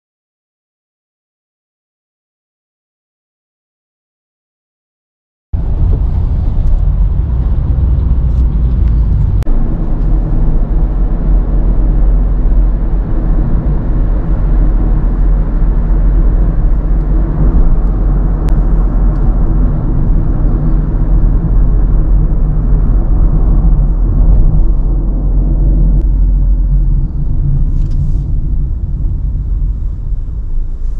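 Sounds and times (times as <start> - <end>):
car cabin road rumble: 5.6 - 30.9.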